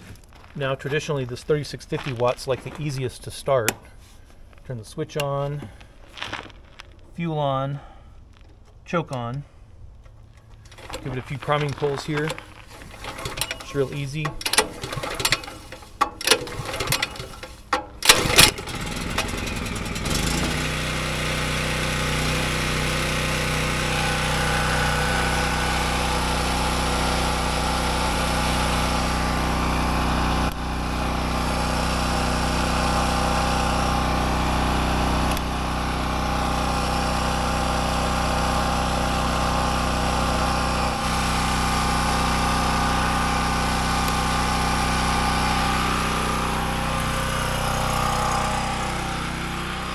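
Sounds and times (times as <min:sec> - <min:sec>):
generator engine running: 0:07.7 - 0:49.9
recoil starter pulls: 0:08.4 - 0:49.9.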